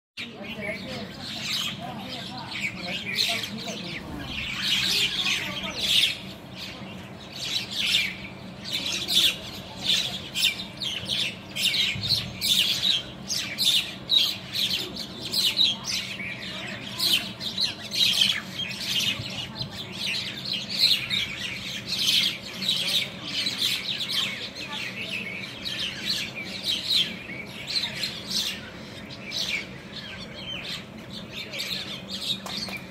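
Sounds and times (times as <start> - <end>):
flock of birds calling: 0.2 - 32.9.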